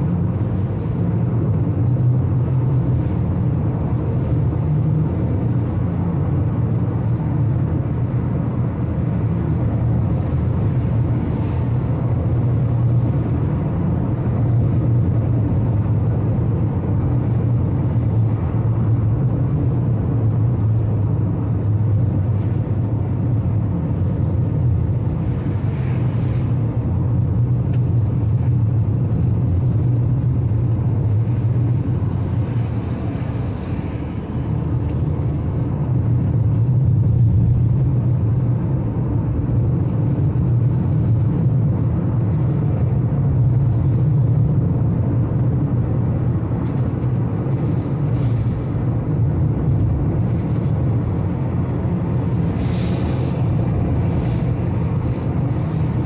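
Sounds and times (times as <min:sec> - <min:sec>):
car engine drone inside cabin: 0:00.0 - 0:56.0
tyres on wet road: 0:00.0 - 0:56.0.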